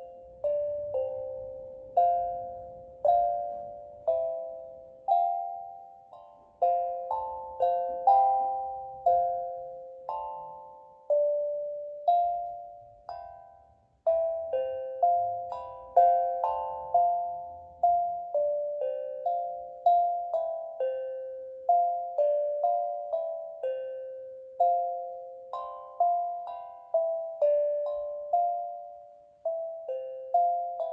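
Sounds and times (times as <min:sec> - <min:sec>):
steel tongue drum melody: 0:00.0 - 0:30.9.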